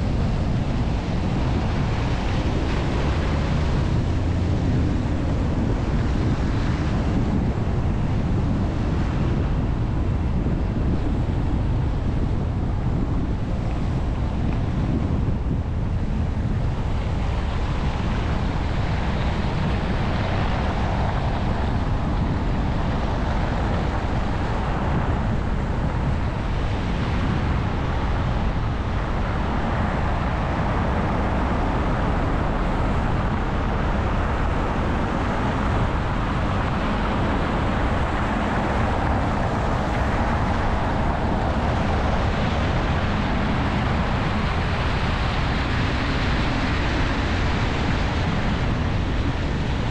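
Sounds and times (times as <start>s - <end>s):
wind rumble on microphone: 0.0s - 49.9s.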